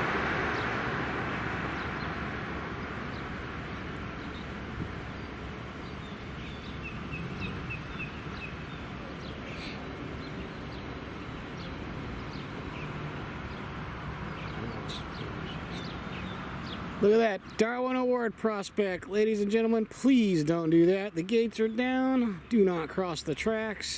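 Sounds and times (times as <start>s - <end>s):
birds chirping: 0.0s - 23.9s
outdoor background noise: 0.0s - 23.9s.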